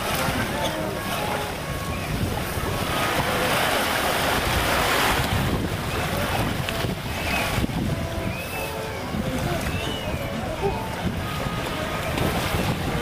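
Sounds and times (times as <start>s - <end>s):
small waves washing on sand: 0.0s - 13.0s
wind rumbling on microphone: 0.0s - 13.0s.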